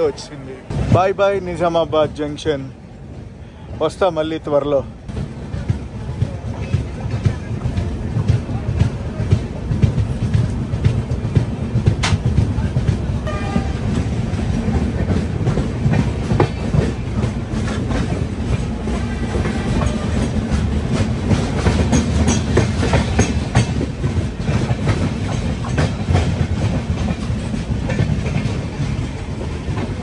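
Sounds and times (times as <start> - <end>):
train wheels rumbling: 0.0 - 30.0
wheels clicking over rail joints: 5.1 - 30.0.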